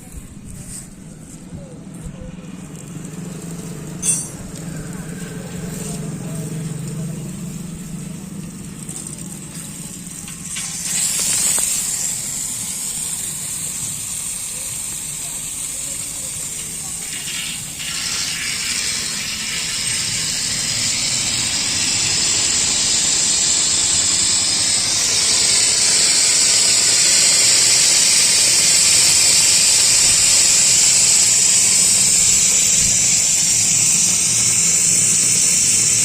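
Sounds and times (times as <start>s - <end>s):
air compressor running: 0.0s - 36.0s.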